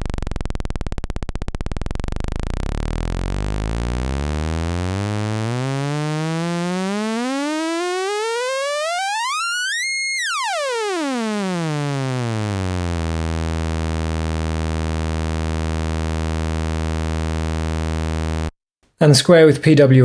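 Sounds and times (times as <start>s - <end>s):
synthesizer sawtooth tone gliding: 0.0s - 18.6s.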